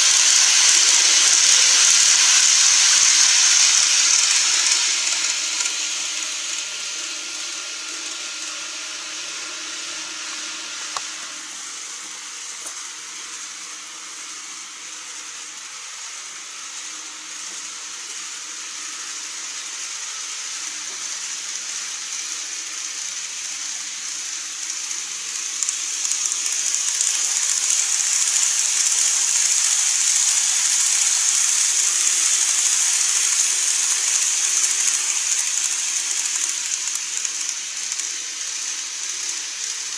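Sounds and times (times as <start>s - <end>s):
faint motor whine: 0.0s - 39.9s
model train wheels hissing: 0.0s - 39.9s.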